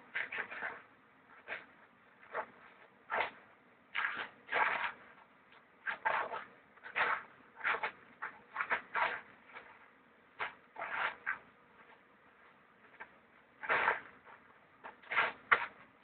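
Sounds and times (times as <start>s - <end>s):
stick swishing through air: 0.0s - 5.0s, 5.8s - 9.8s, 10.4s - 12.0s, 12.9s - 16.0s.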